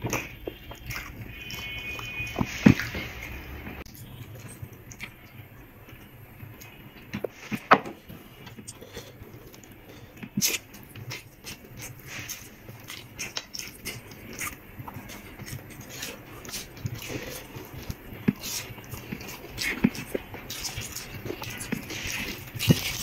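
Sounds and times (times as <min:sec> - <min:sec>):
wet chewing and smacking: 0:00.0 - 0:23.0.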